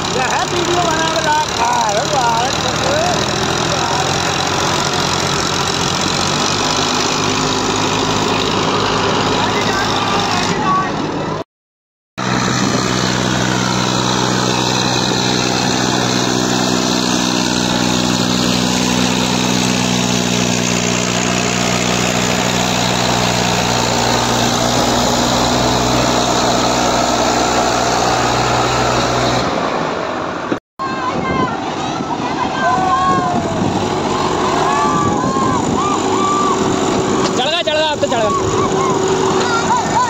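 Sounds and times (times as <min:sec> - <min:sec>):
diesel tractor engine running: 0:00.0 - 0:11.4, 0:12.2 - 0:40.0.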